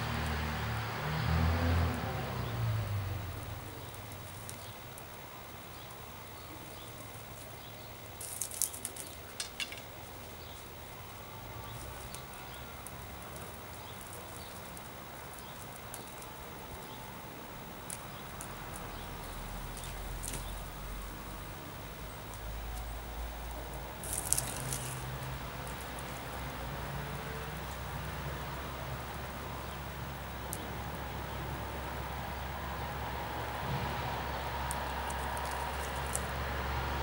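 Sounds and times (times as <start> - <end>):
tinder crackling and rustling: 3.5 - 37.0.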